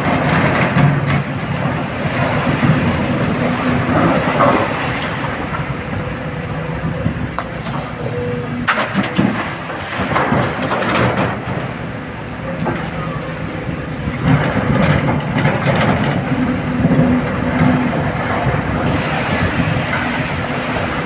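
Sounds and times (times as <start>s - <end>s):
heavy diesel machinery working: 0.0s - 21.0s.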